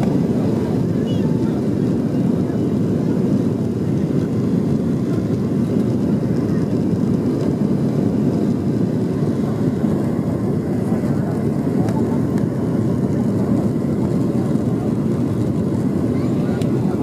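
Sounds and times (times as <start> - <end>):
airflow in airliner cabin: 0.0 - 17.0
jet engines rumbling: 0.0 - 17.0.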